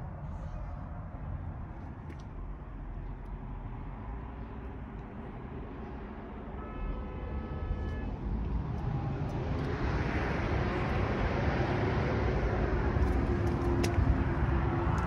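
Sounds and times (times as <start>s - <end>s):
road traffic rumble: 0.0s - 15.0s
wind: 0.0s - 15.0s.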